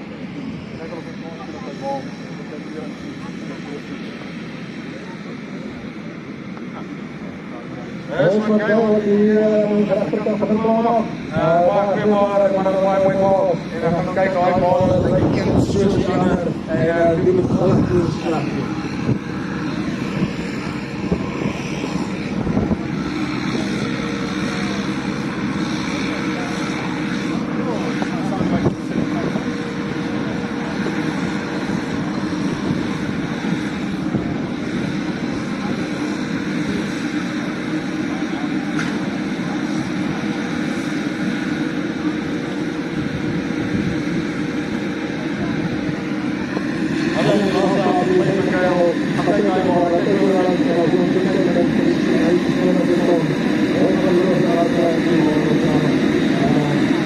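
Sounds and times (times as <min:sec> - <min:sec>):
tractor and baler droning: 0:00.0 - 0:57.0.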